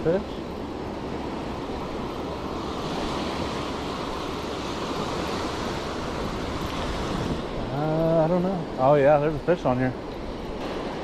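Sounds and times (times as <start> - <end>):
surf washing up a sandy beach: 0.0 - 11.0.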